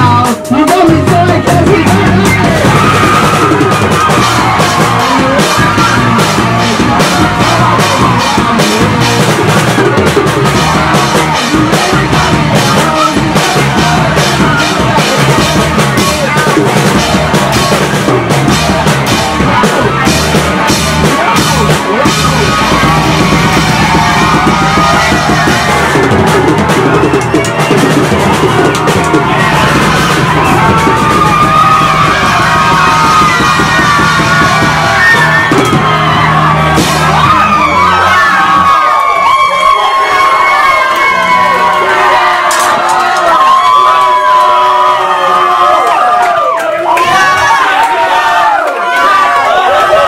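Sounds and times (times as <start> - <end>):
live rock band playing: 0.0 - 45.0
crowd yelling: 0.0 - 50.0.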